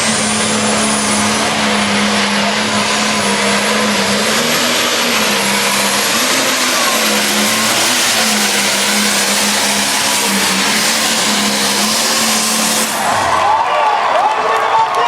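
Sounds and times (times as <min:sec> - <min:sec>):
tractor engine roaring: 0:00.0 - 0:15.0.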